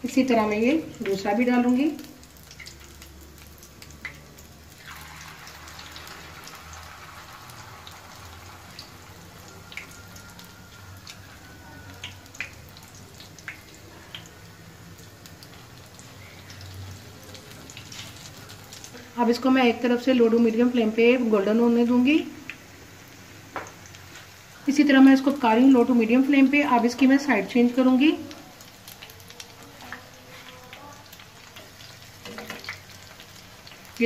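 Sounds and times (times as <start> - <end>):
patties sizzling in hot oil: 0.0 - 34.0
oil popping and crackling: 0.1 - 20.7, 21.9 - 34.0.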